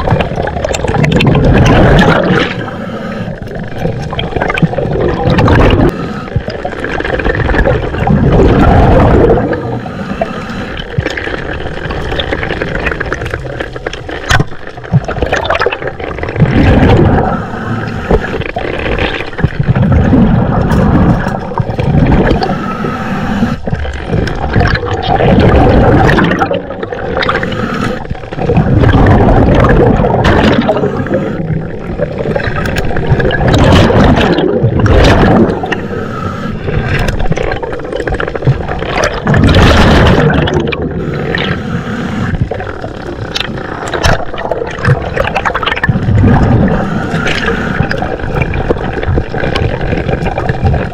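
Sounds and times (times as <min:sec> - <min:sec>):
muffled underwater rushing: 0:00.0 - 0:50.9.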